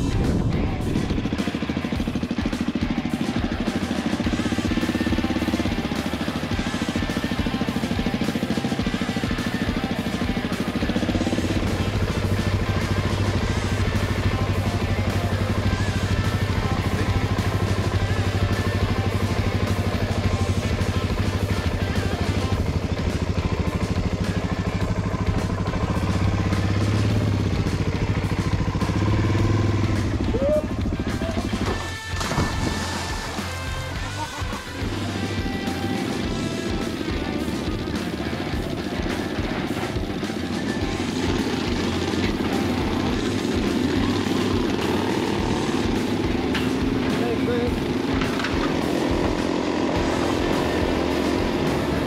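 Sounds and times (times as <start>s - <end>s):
dirt bikes idling: 0.0s - 52.0s
motorcycle engine running at low revs: 0.0s - 52.0s.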